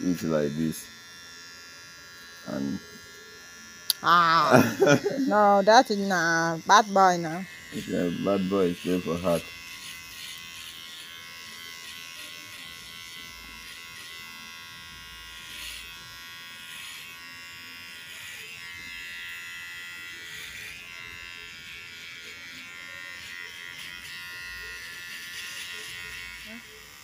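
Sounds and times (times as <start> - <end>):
electric hair clipper running: 0.0 - 27.0.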